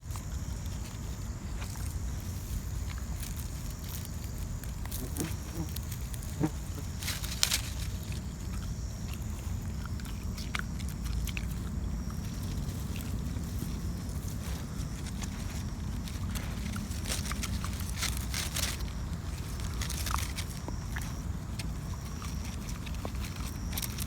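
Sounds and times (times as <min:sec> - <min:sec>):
dog chewing grass: 0:00.0 - 0:24.0.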